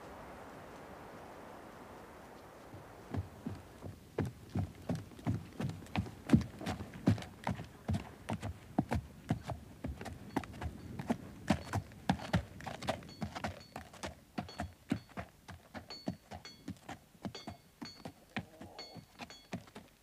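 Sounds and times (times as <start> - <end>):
horse hooves clip-clopping: 0.0 - 20.0.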